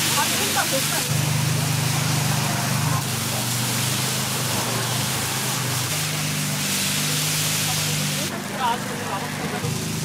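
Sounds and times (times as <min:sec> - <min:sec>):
batter sizzling in a pan: 0:00.0 - 0:08.4.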